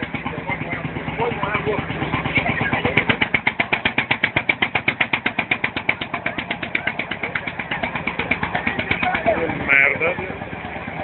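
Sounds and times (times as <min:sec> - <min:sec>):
engine running with rapid pulse: 0:00.0 - 0:11.0.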